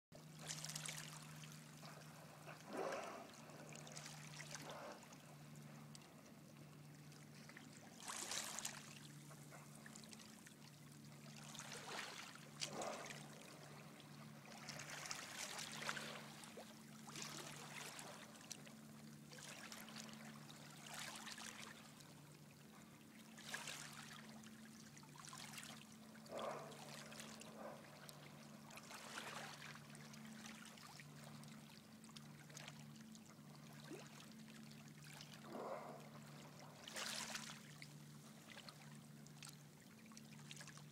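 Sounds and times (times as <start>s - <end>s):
faint low hum: 0.2s - 40.9s.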